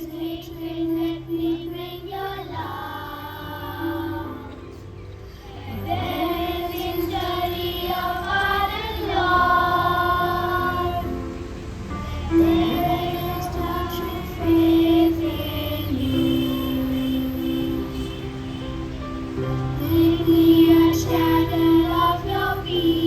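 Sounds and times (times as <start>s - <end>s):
children singing a hymn: 0.0s - 23.0s
low musical accompaniment: 0.0s - 23.0s.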